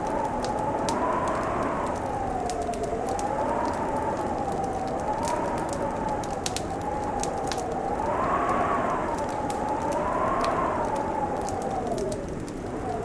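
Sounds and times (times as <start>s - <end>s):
howling wind: 0.0s - 13.0s
wood fire crackling and popping: 0.0s - 13.0s.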